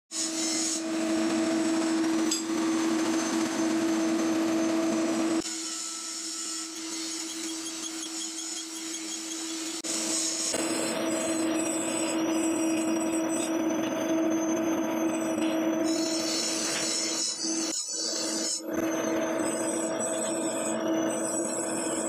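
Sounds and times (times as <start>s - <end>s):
workshop noise: 0.1s - 22.0s.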